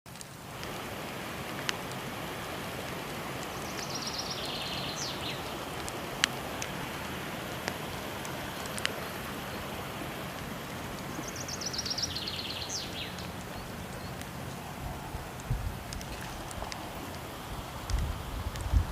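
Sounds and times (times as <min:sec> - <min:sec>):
waterfall rushing: 0:00.1 - 0:18.9
wood fire crackling: 0:00.1 - 0:18.9.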